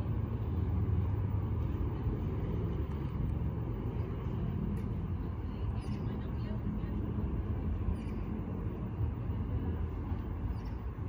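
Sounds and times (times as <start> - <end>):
distant vehicles rumbling: 0.0 - 11.0.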